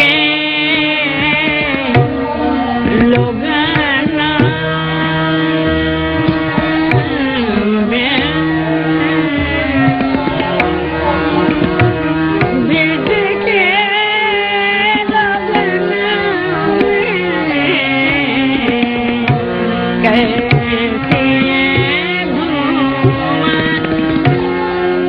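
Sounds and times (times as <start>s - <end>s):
tabla strokes: 0.0s - 25.0s.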